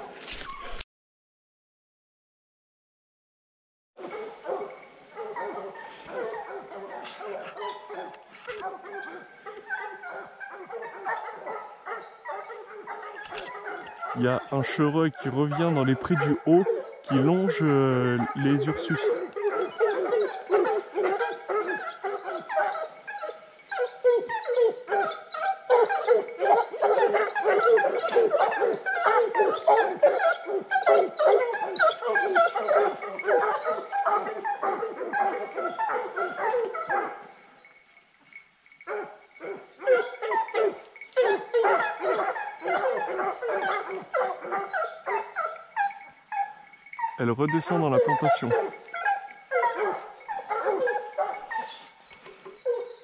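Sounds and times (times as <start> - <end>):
hounds baying: 4.0 - 53.0.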